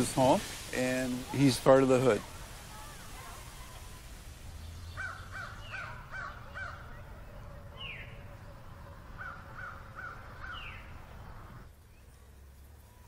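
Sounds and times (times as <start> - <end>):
harsh repeated bird calls: 1.0 - 12.0.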